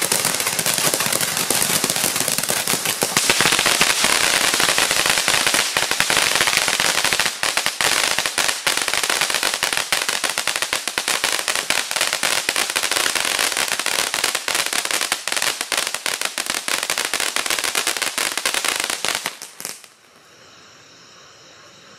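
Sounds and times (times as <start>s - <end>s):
firework fountain hissing and crackling: 0.0s - 21.9s.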